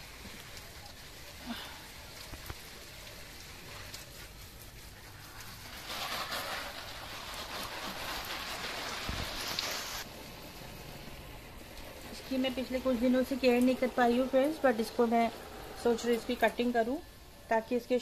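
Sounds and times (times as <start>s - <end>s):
water spraying onto leaves: 0.0s - 18.0s.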